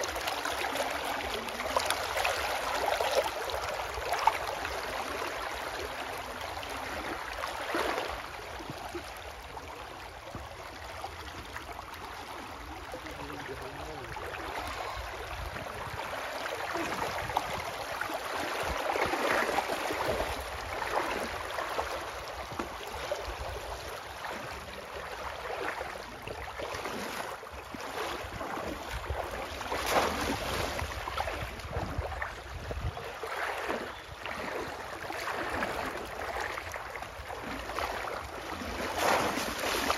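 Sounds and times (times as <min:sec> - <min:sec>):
flowing water: 0:00.0 - 0:39.9
water splashing as person wades: 0:00.0 - 0:39.9.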